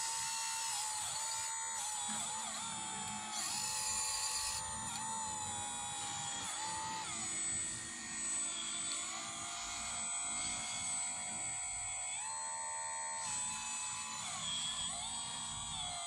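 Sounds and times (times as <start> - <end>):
hydraulic pump whine: 0.0 - 16.0.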